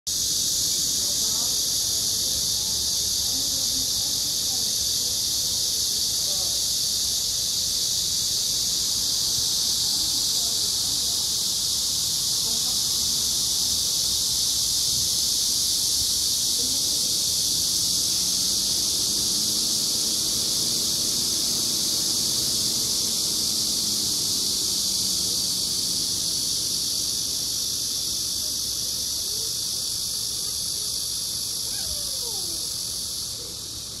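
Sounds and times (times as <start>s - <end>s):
cicada buzzing: 0.1s - 34.0s.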